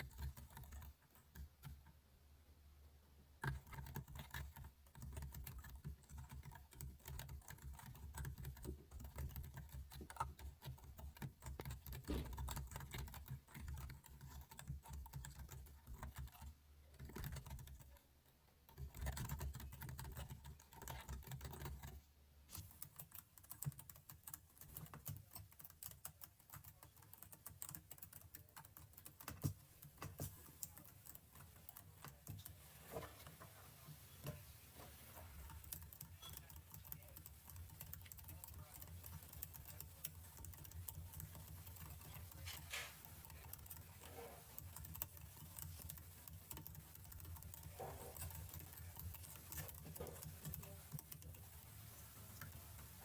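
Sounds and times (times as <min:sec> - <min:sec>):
computer keyboard typing: 0:00.0 - 0:01.9, 0:03.4 - 0:18.0, 0:18.7 - 0:32.6, 0:35.3 - 0:53.0.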